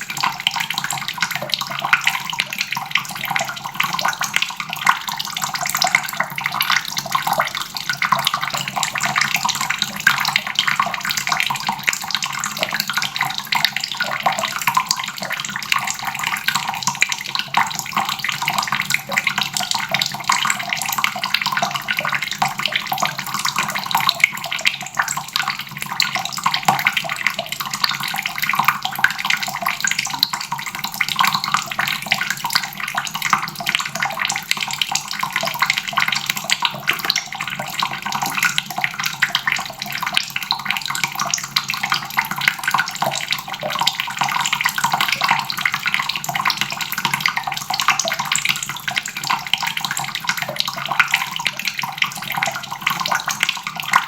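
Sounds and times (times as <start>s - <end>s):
faucet water running into basin: 0.0s - 54.0s.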